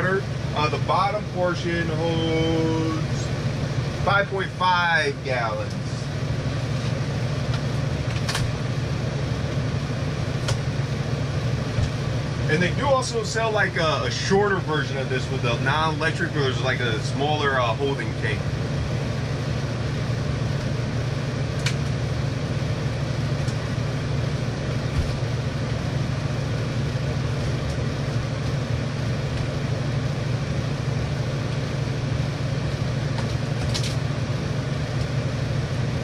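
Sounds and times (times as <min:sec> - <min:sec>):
air conditioner humming: 0:00.0 - 0:36.0.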